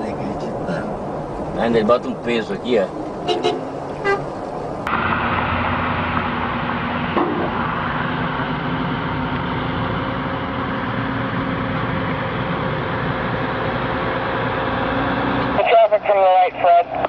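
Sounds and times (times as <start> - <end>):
road noise: 0.0 - 17.0
truck engine droning: 0.0 - 17.0.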